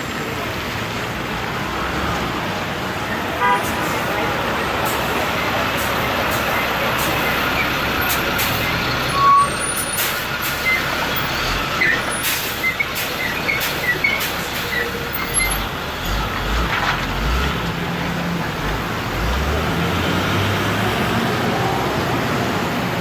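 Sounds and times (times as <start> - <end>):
traffic engines and tyres: 0.0 - 23.0.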